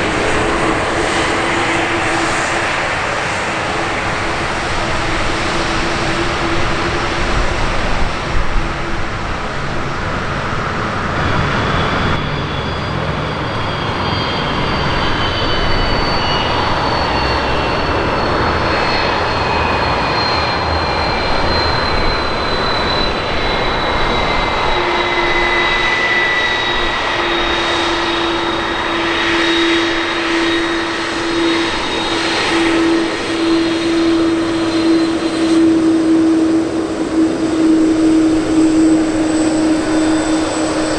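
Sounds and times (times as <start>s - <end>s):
high turbine whine: 0.0s - 40.9s
jet engines passing: 0.0s - 40.9s.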